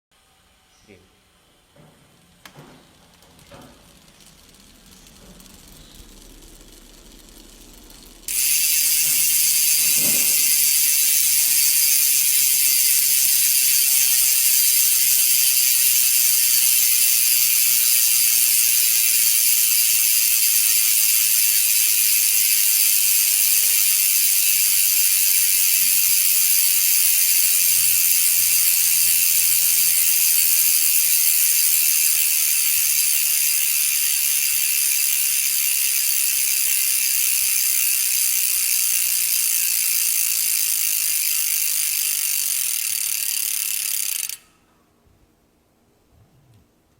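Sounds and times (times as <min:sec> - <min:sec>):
bicycle hub freewheel buzzing: 0:02.2 - 0:44.6.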